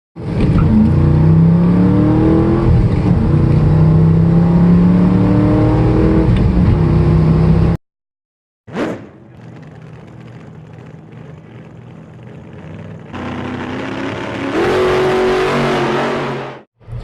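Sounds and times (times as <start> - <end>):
car engine accelerating hard: 0.2 - 7.8, 9.4 - 16.7.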